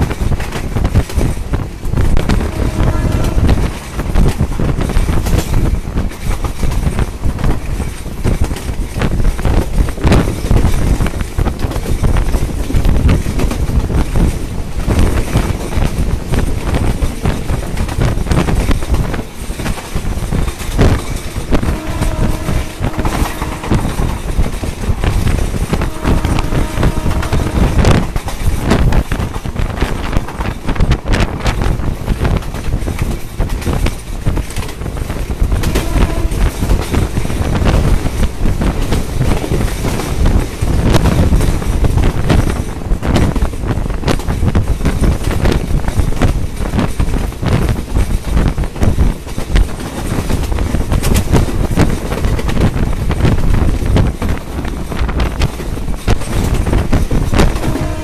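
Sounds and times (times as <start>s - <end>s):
train rumble: 0.0s - 58.0s
wind buffeting microphone: 0.0s - 58.0s.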